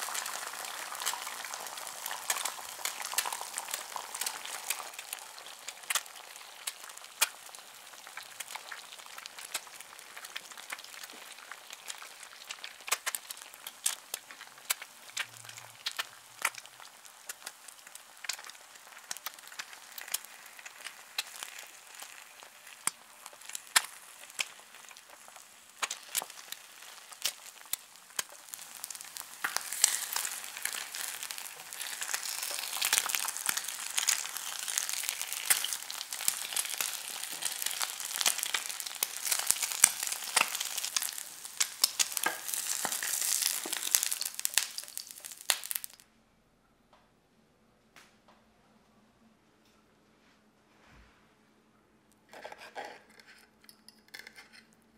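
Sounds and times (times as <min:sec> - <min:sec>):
egg sizzling in frying pan: 0:00.0 - 0:46.0.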